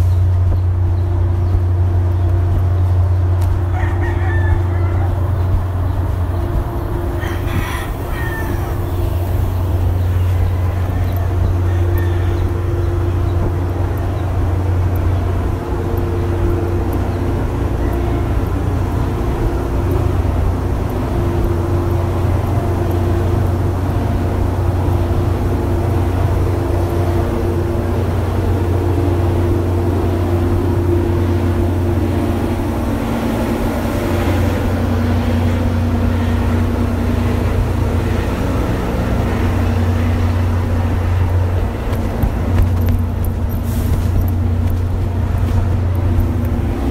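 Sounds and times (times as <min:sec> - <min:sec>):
diesel engine idling: 0:07.9 - 0:46.9.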